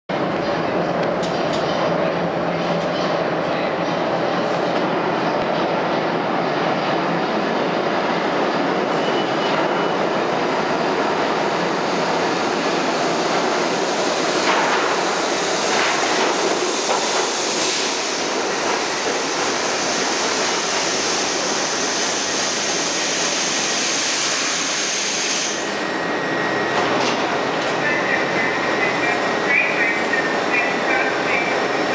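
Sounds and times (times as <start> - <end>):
subway train wheels rumbling: 0.1 - 31.9.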